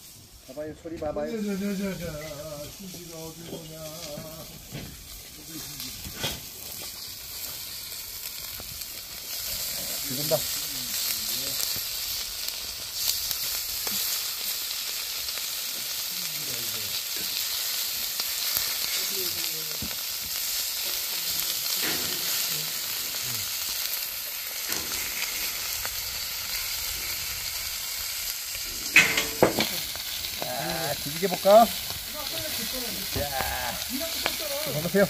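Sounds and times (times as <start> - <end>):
meat sizzling on a griddle: 0.0 - 35.0.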